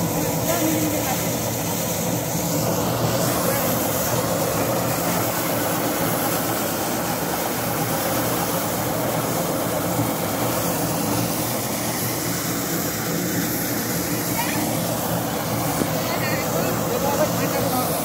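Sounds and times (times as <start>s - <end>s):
threshing machine droning: 0.0s - 18.0s.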